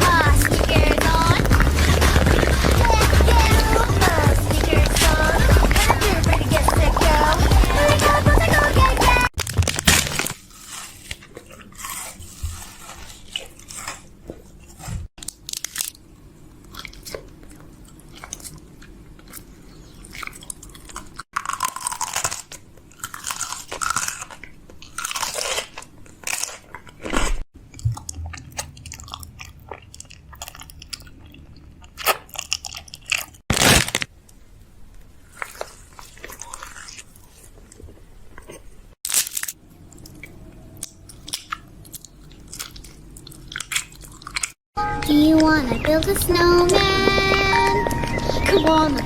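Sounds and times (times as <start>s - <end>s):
crunchy chewing: 0.0s - 34.1s, 35.0s - 44.6s.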